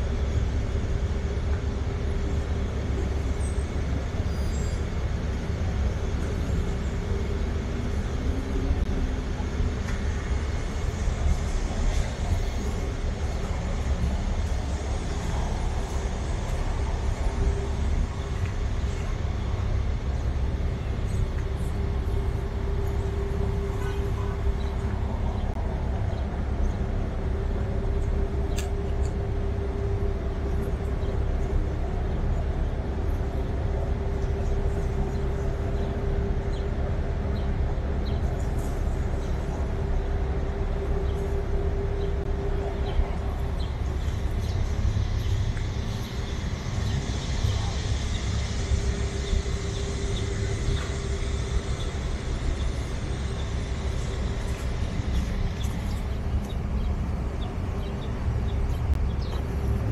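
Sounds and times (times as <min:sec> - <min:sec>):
city vehicle rumble: 0:00.0 - 0:59.9
droning hum: 0:00.0 - 0:59.9.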